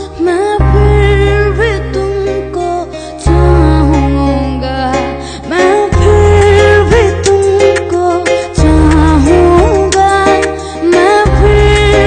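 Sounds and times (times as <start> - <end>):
boy singing wordless melody: 0.0 - 12.0
soft backing track: 0.0 - 12.0.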